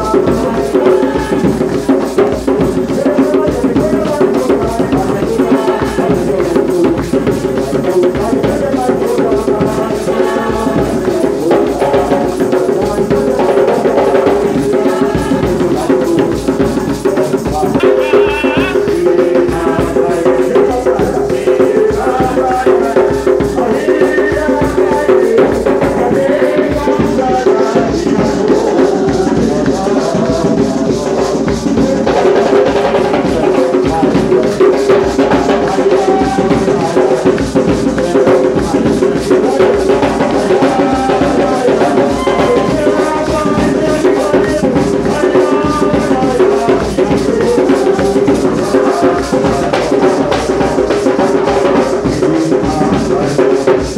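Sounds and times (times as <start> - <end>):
hand drums beating: 0.0 - 53.9
voices singing: 0.0 - 53.9.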